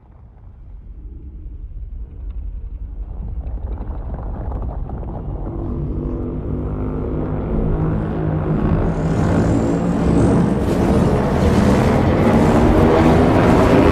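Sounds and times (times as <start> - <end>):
droning hum: 0.0 - 13.9
low rumble: 0.0 - 13.9.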